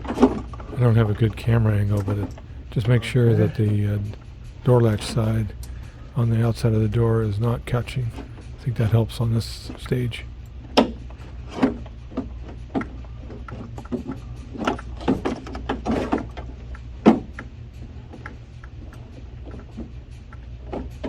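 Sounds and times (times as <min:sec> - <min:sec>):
parts clicking and knocking: 0:00.0 - 0:21.0
steady low hum: 0:00.0 - 0:21.0.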